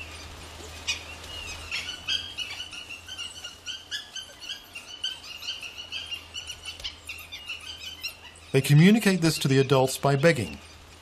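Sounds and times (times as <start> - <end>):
pups squeaking and whining: 0.0 - 9.7.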